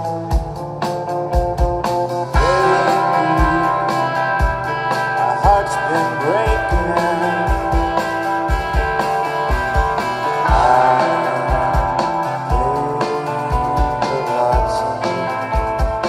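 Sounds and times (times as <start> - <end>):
gliding guitar notes: 0.0 - 16.0
rock band playing live: 0.0 - 16.0.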